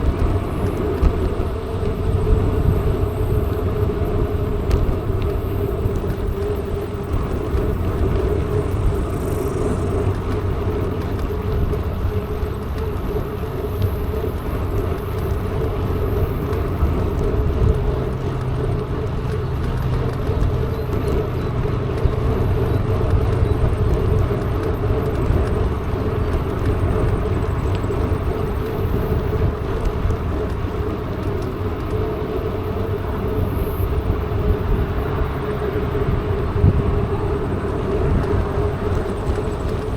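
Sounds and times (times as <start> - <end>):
bike tyres rumbling: 0.0 - 39.9
wind rushing over microphone: 0.0 - 39.9.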